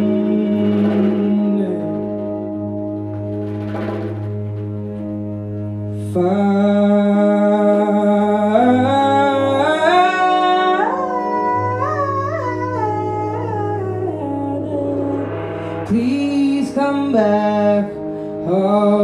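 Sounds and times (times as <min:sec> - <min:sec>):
bowed double bass drone: 0:00.0 - 0:19.0
wordless melody line: 0:00.0 - 0:19.0.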